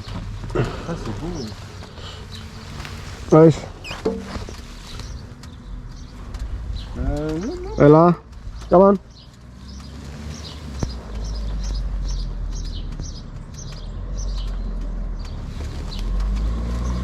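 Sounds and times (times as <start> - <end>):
steady low rumble: 0.0 - 16.2
small birds chirping: 0.0 - 17.0.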